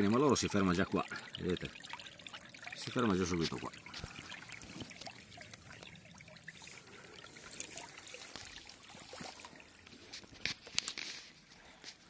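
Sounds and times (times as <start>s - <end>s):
faint water splashes: 0.0s - 12.0s
water trickling over sluice: 0.0s - 12.0s.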